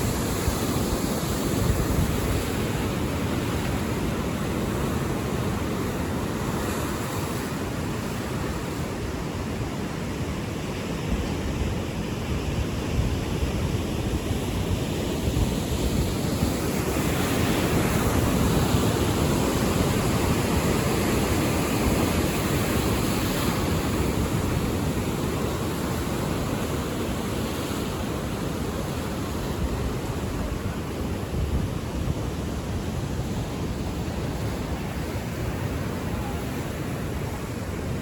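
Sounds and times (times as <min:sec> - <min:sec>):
ocean surf rushing: 0:00.0 - 0:38.0
wind rumbling on microphone: 0:00.0 - 0:38.0.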